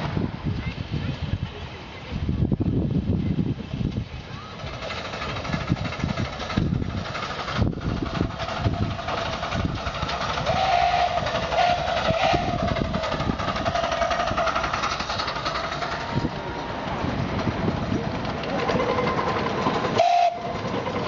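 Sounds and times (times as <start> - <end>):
steam locomotive wheels rattling: 0.0 - 21.0.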